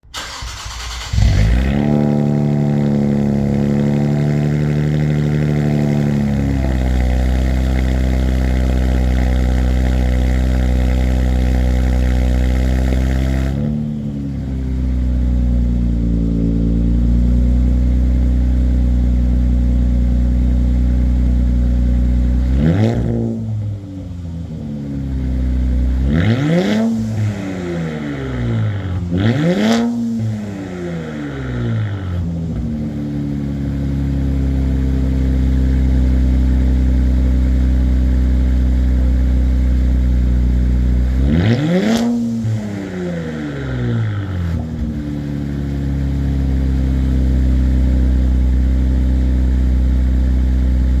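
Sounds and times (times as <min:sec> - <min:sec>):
engine revving: 0:00.0 - 0:19.6, 0:20.8 - 0:48.6
car engine starting and idling: 0:00.0 - 0:51.0.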